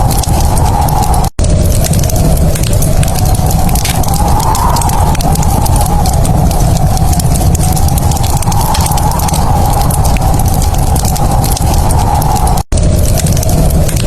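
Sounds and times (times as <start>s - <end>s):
fire crackling and popping: 0.0s - 14.0s
fire rumble and hiss: 0.0s - 14.0s.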